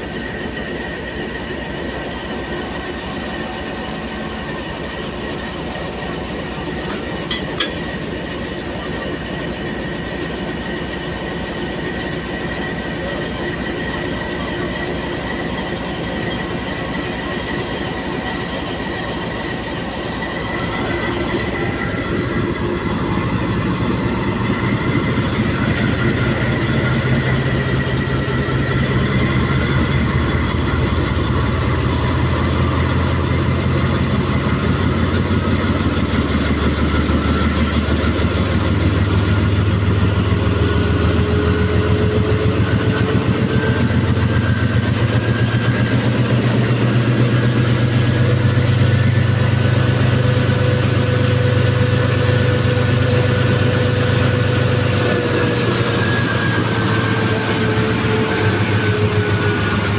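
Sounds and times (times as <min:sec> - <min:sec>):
diesel locomotive engine running: 0:00.0 - 0:59.9
rising whine: 0:11.6 - 0:59.9.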